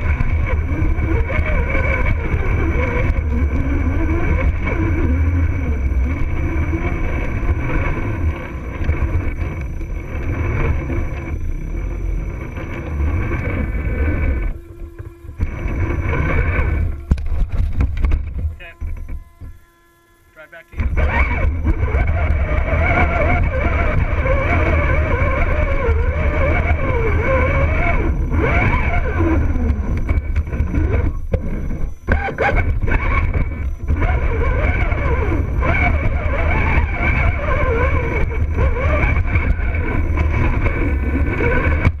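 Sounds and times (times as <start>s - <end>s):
electric motor whining: 0.0s - 42.0s.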